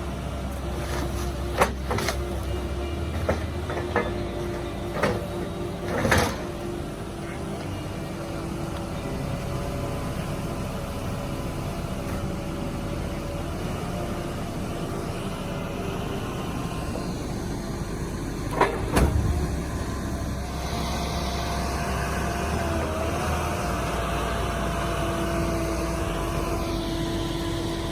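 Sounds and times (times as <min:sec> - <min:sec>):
heavy machine engine running: 0:00.0 - 0:27.9.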